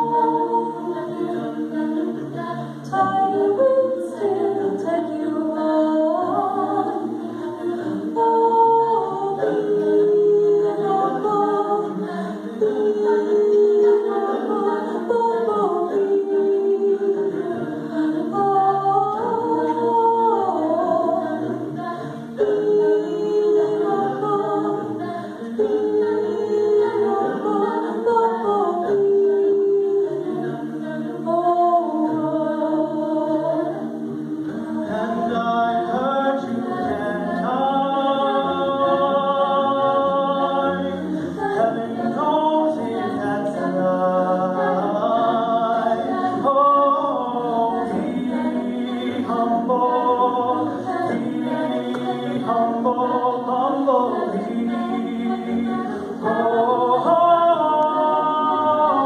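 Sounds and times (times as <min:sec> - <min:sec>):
vocal jazz ensemble singing: 0:00.0 - 0:59.0.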